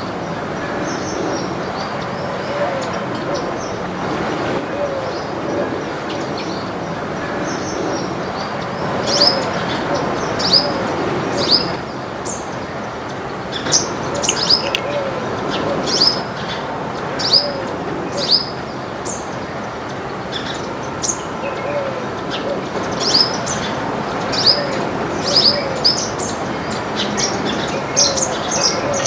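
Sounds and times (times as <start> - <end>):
songbirds chirping: 0.0 - 29.0
steady background hum: 0.0 - 29.0.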